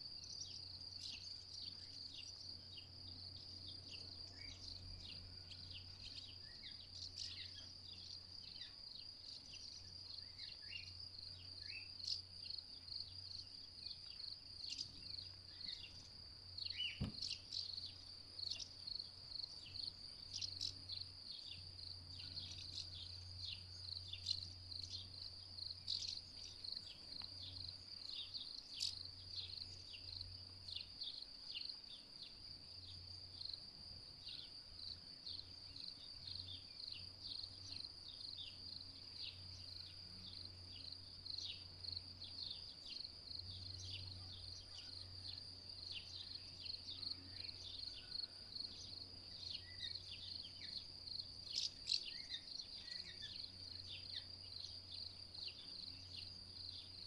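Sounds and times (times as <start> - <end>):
cricket-like chirring trill: 0.0 - 57.0.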